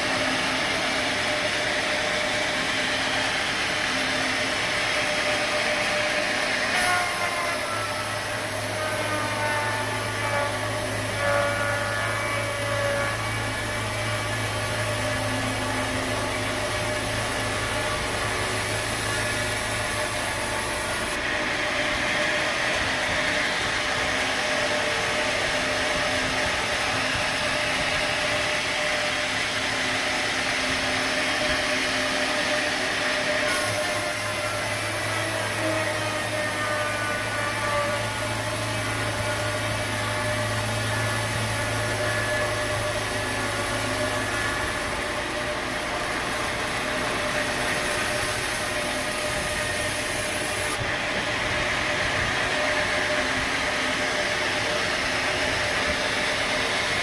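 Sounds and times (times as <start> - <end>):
saw cutting timber: 0.0 - 57.0
sawmill machinery running: 0.0 - 57.0.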